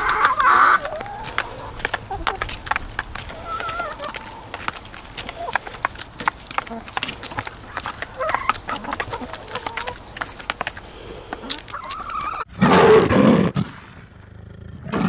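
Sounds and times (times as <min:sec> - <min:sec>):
hens clucking: 0:00.0 - 0:12.5
hens pecking on a tray: 0:00.0 - 0:12.5.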